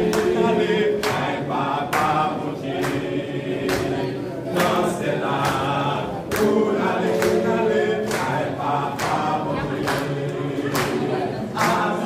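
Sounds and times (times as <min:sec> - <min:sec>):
choir singing a gospel song: 0:00.0 - 0:12.0.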